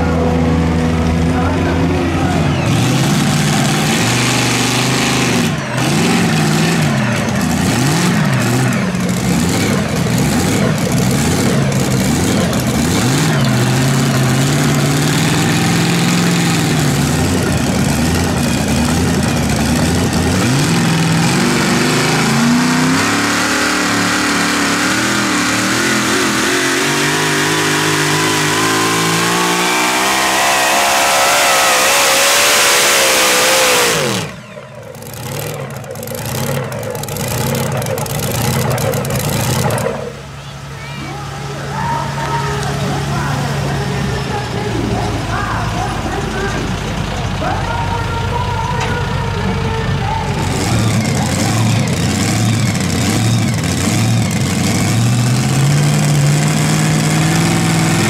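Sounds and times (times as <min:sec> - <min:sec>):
engine running at high revs: 0:00.0 - 0:48.1, 0:48.8 - 0:58.0.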